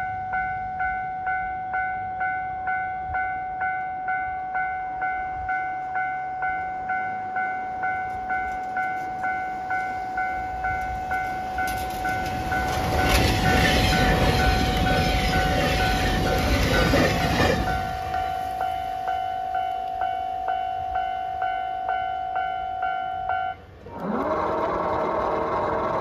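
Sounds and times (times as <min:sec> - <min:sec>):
train passing: 0:00.0 - 0:26.0.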